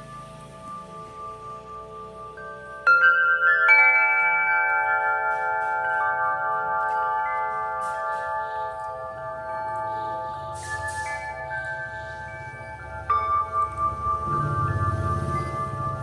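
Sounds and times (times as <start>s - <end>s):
tubular wind chimes ringing: 0.0s - 16.0s.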